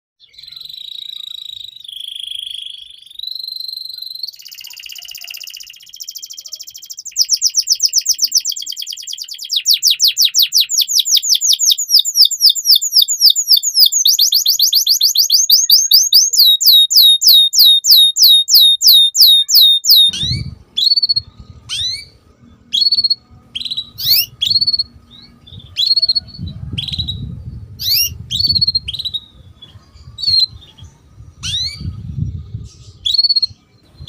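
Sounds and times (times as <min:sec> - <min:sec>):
canary singing: 0:00.2 - 0:34.0.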